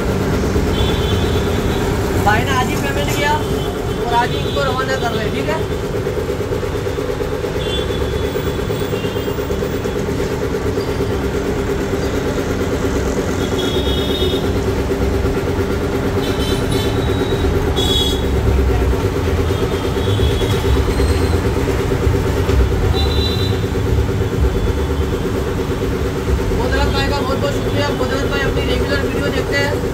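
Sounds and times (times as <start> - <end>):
air compressor running: 0.0 - 29.9.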